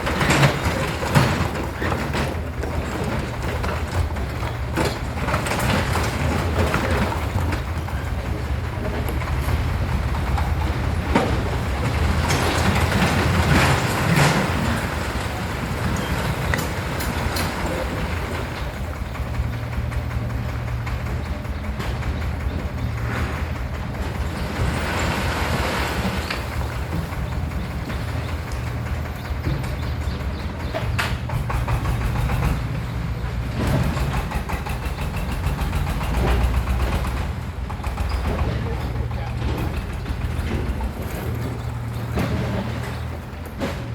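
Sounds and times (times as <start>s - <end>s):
diesel engine rattling: 0.0s - 43.9s.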